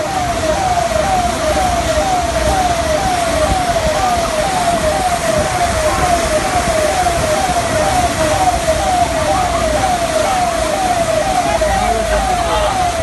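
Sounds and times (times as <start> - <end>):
electronic siren falling tone: 0.0 - 13.0
rain hissing: 0.0 - 13.0.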